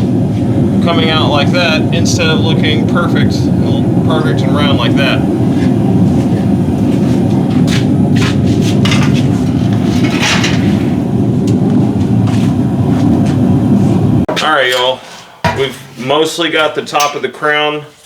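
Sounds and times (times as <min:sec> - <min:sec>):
low roar of shop equipment: 0:00.0 - 0:18.0.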